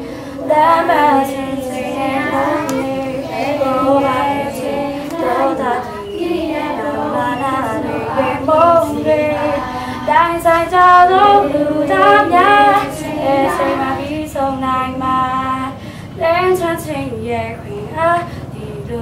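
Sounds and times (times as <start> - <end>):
children singing together: 0.0 - 19.0.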